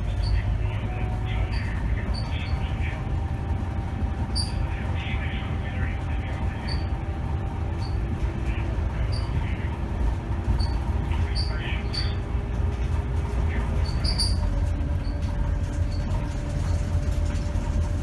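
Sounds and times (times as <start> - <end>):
bus body squeaks and rattles: 0.0 - 18.0
bus diesel engine and road rumble: 0.0 - 18.0.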